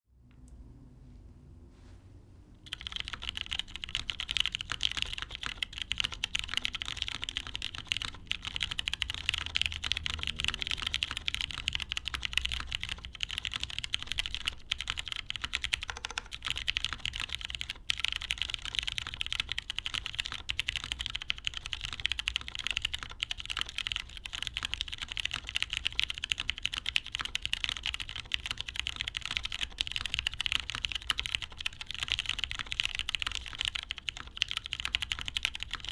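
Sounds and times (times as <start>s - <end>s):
fast typing on mechanical keyboard: 2.6s - 35.9s.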